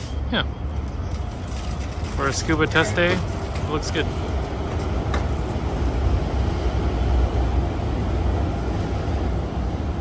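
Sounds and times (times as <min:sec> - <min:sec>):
low vehicle rumble: 0:00.0 - 0:10.0.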